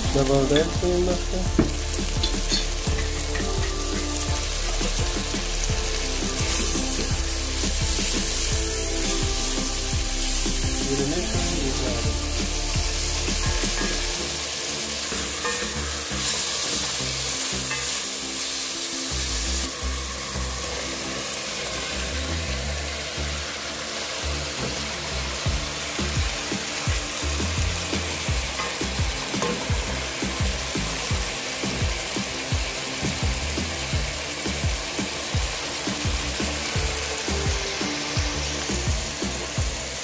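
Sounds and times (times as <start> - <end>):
onions sizzling in oil: 0.0 - 40.0.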